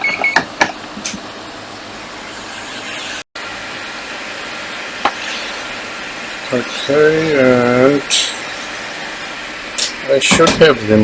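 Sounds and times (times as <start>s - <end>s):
hot air station blowing: 1.0s - 11.0s.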